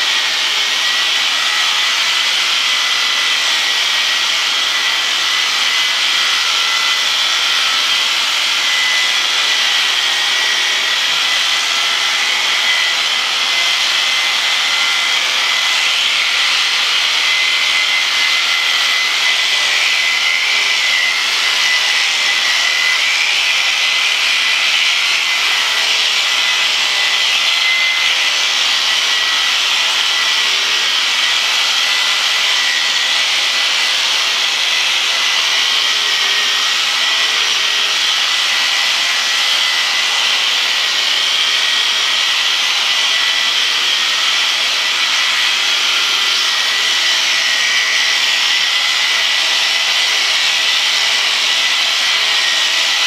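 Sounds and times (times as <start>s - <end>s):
electric shears high whine: 0.0s - 53.0s.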